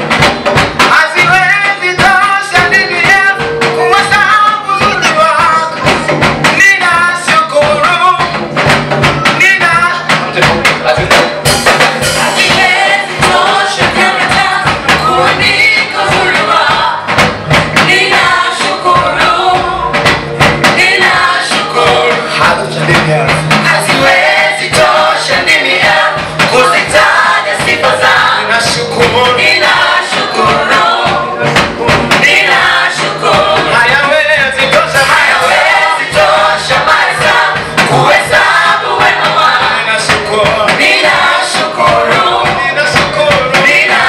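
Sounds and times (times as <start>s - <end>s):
band with steady beat: 0.0s - 44.0s
group of singers: 0.0s - 44.0s.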